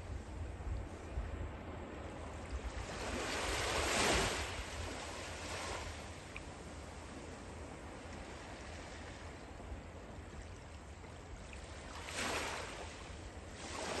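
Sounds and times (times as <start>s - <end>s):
small waves lapping at shore: 0.0s - 14.0s.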